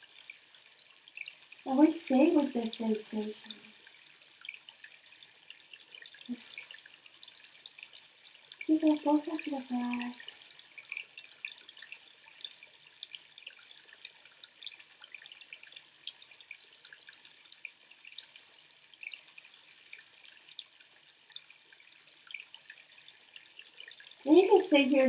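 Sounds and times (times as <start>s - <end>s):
water dripping: 0.0s - 25.0s.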